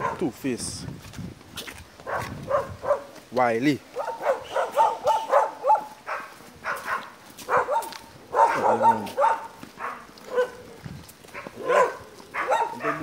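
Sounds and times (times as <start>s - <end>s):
dogs barking and yelping: 0.0s - 0.3s, 2.0s - 3.2s, 3.9s - 13.0s.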